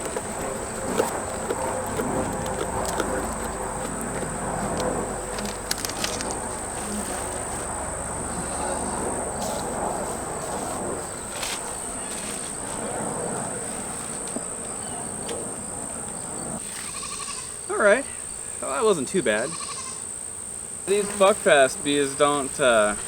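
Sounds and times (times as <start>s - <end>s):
bees buzzing: 0.0s - 23.0s
high thin insect chirr: 0.0s - 23.0s.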